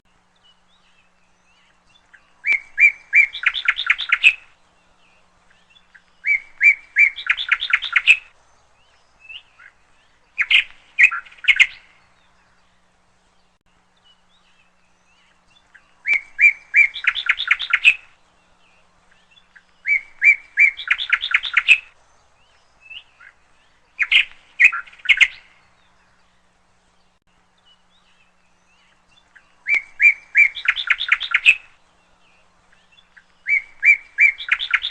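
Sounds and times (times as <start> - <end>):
songbird singing with trill: 0.0 - 34.9.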